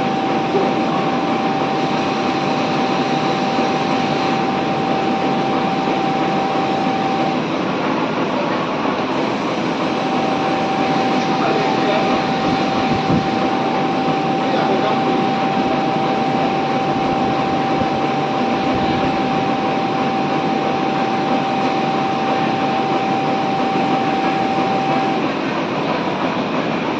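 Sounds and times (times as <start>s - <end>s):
high whine: 0.0s - 7.8s, 9.1s - 26.5s.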